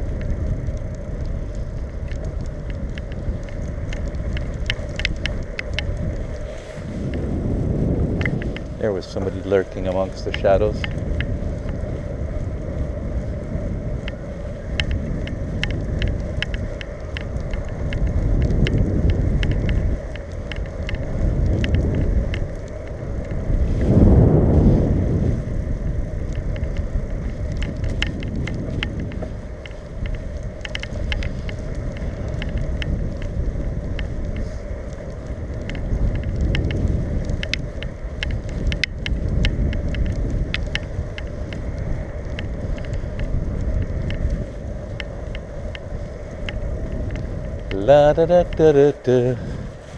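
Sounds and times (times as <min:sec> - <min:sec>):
bicycle clicks and rattles: 0:00.0 - 0:49.9
wind rushing over microphone: 0:00.0 - 0:49.9.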